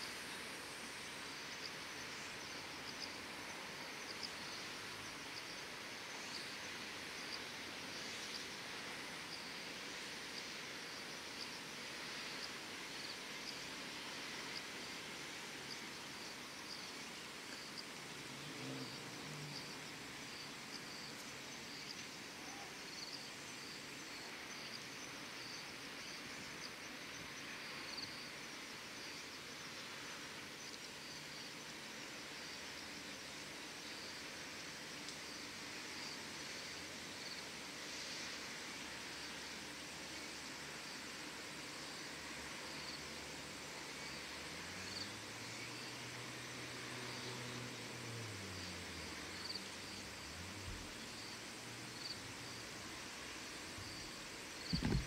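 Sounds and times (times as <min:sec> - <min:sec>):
insects chirping: 0:00.0 - 0:55.0
outdoor ambient hiss: 0:00.0 - 0:55.0.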